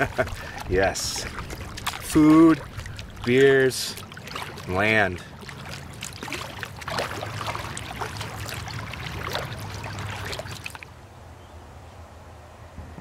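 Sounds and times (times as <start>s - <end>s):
water splashing off paddle: 0.0s - 10.9s.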